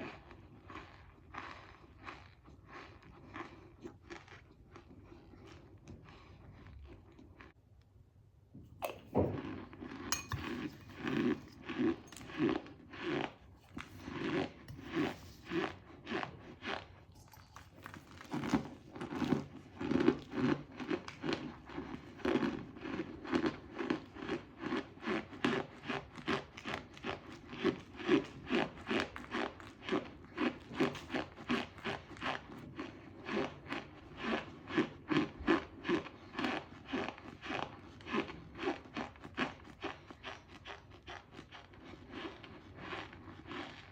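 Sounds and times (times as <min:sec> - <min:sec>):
person chewing crunchy food: 0:00.0 - 0:07.6, 0:08.8 - 0:43.9.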